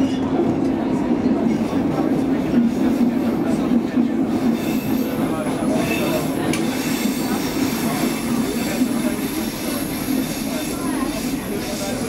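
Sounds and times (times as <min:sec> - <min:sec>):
subway wheels rumbling on track: 0:00.0 - 0:12.0.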